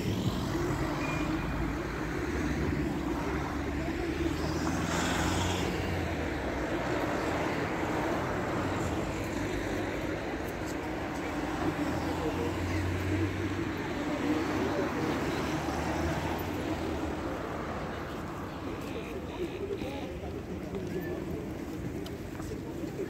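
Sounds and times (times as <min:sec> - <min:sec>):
road vehicle engine rumble: 0:00.0 - 0:23.0.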